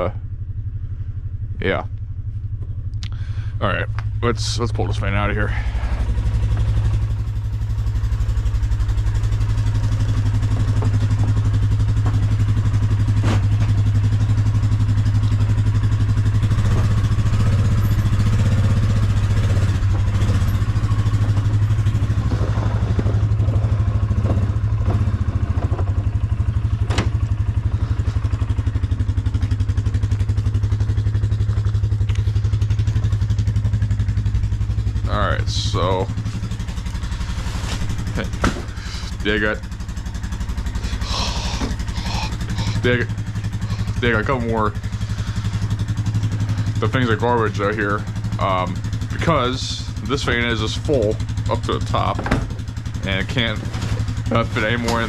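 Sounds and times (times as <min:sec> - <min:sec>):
engine running at low revs: 0:00.0 - 0:55.0.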